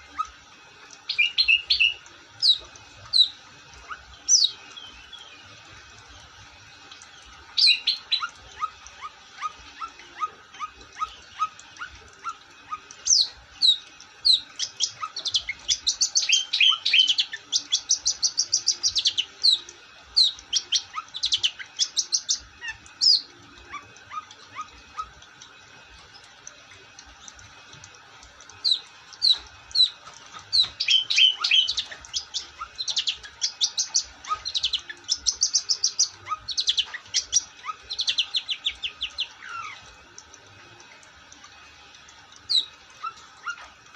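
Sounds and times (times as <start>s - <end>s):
bird song with sharp high chirps: 1.0s - 6.2s, 7.1s - 25.1s, 28.5s - 39.9s, 42.4s - 43.8s.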